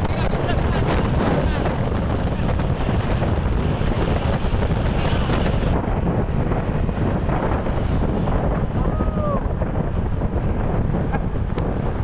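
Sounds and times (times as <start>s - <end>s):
traffic rumble: 0.0s - 12.0s
wind buffeting microphone: 0.0s - 12.0s.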